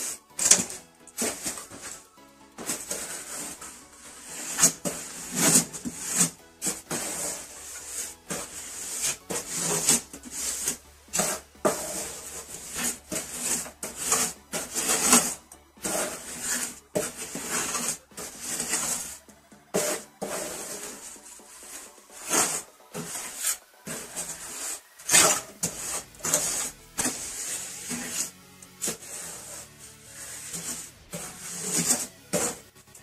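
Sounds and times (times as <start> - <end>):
scraping and rubbing strokes: 0.0 - 33.0.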